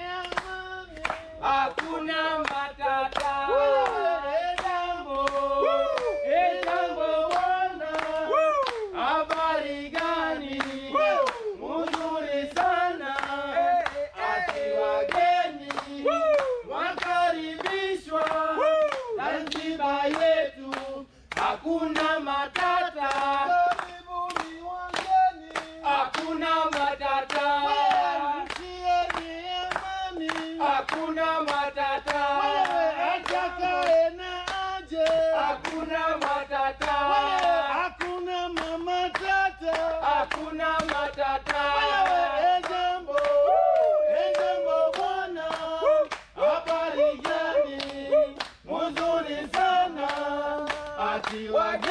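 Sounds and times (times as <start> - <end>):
hand-clapping beat: 0.0 - 51.9
voices singing together: 0.0 - 51.9.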